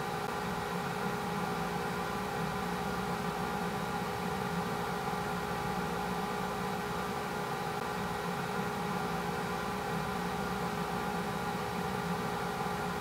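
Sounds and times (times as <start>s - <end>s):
small machine humming and hissing: 0.0s - 13.0s.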